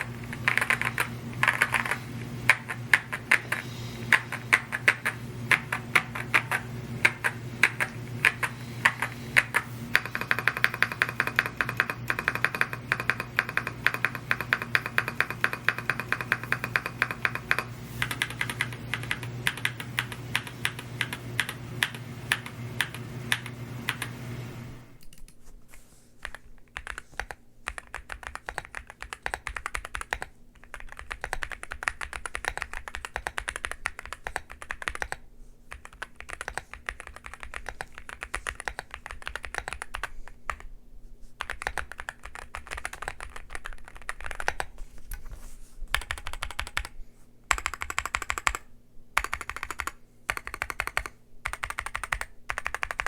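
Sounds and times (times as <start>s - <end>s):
typing on mechanical keyboard: 0.0s - 24.1s, 25.0s - 25.4s, 26.2s - 40.7s, 41.4s - 44.7s, 45.9s - 53.0s.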